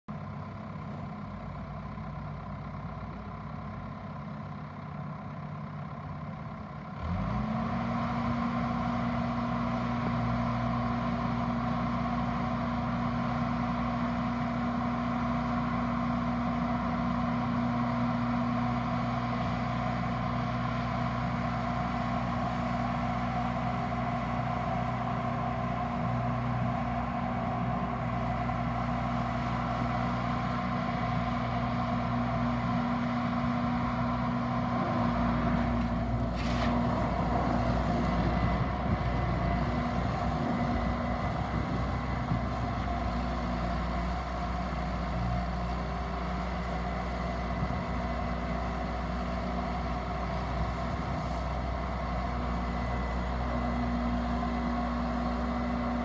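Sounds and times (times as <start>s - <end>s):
skid steer diesel engine revving: 0.2s - 56.0s.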